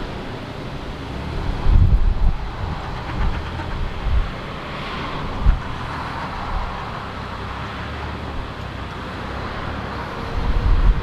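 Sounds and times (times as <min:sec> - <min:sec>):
vehicle noise rumble and hiss: 0:00.0 - 0:11.0
wind buffeting microphone: 0:00.0 - 0:11.0.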